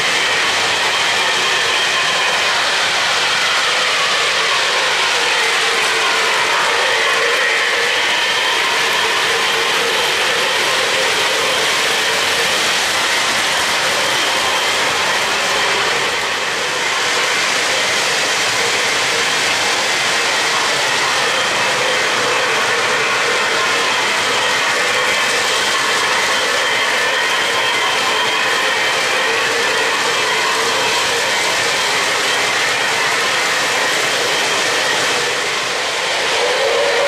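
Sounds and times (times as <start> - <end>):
model train wheels rolling on rails: 0.0 - 37.0.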